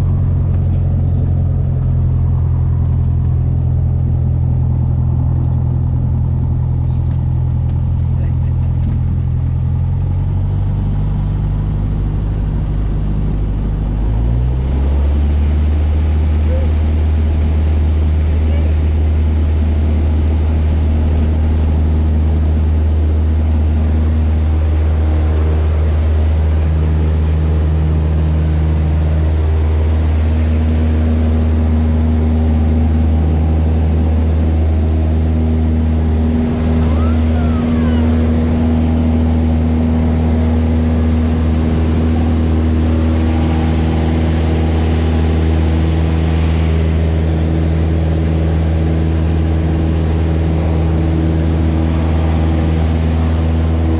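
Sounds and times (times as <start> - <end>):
airplane engine droning: 0.0 - 53.9.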